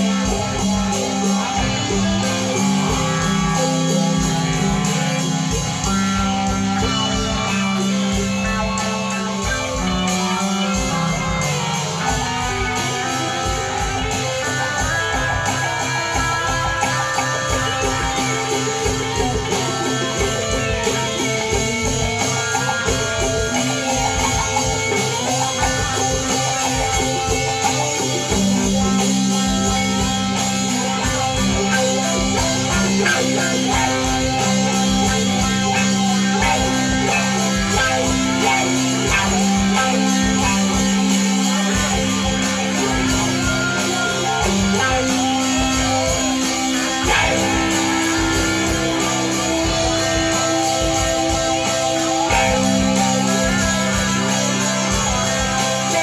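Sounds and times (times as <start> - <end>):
bass guitar: 0.0 - 56.0
drums: 0.0 - 56.0
electric guitars: 0.0 - 56.0.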